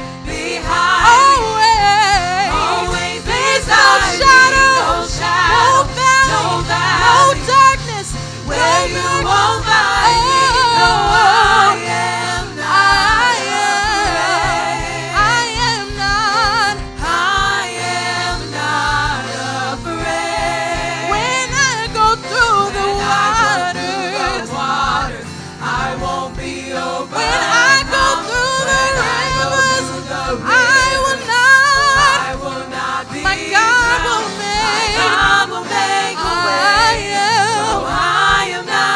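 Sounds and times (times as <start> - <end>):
choir singing gospel: 0.0 - 38.9
instrumental accompaniment: 0.0 - 38.9.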